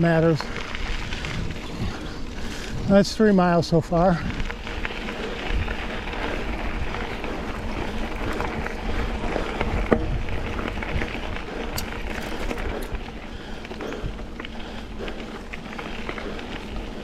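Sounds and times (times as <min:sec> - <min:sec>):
bike rattling and clicking: 0:00.0 - 0:17.0
bike tyres on gravel: 0:00.0 - 0:17.0.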